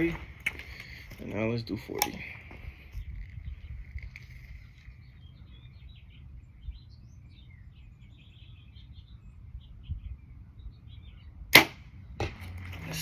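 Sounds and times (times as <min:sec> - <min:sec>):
small birds chirping: 0:00.0 - 0:13.0
wind rumble: 0:00.0 - 0:13.0.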